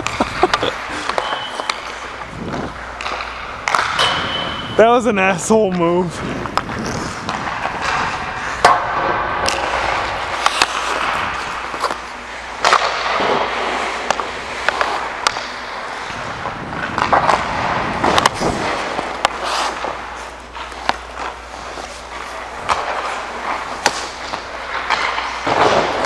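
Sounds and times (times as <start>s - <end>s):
skate blades scraping ice: 0.0s - 4.8s, 5.5s - 26.0s
hockey sticks and puck clacking: 0.0s - 26.0s.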